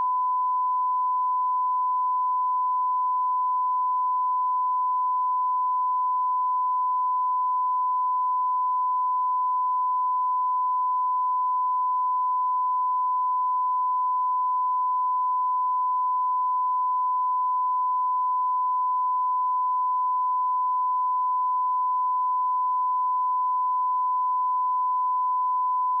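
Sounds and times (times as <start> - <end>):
sine-wave test tone: 0.0 - 26.0.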